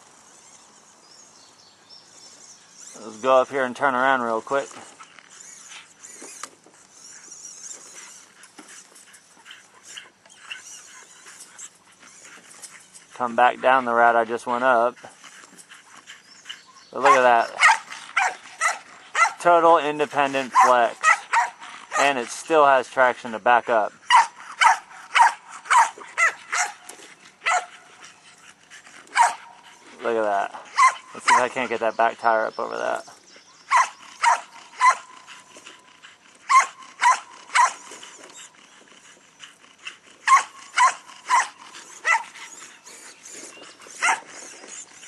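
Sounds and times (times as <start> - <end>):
dogs crying and whining: 2.0 - 22.8, 23.7 - 45.0.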